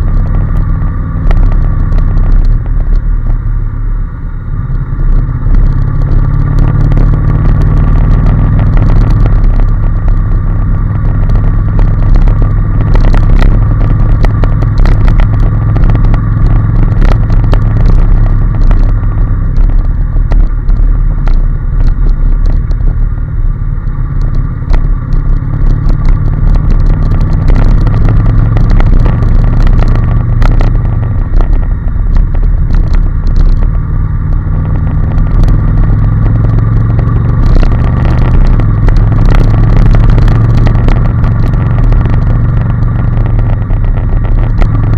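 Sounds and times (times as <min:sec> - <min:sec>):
scattered crackles: 0:00.0 - 0:03.7, 0:04.3 - 0:44.9
motorcycle engine running: 0:00.0 - 0:44.9
wind and road noise rumble: 0:00.0 - 0:44.9.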